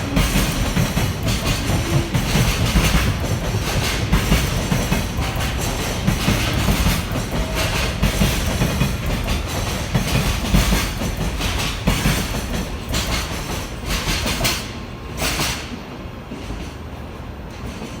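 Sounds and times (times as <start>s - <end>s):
train wheels clattering over rail joints: 0.0s - 16.8s.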